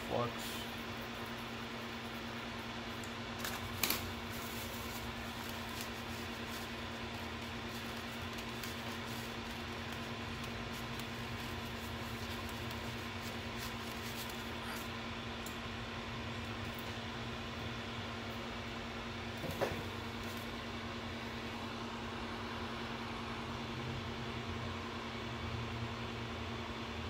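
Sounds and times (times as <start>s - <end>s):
extractor fan whirring: 0.0s - 27.0s.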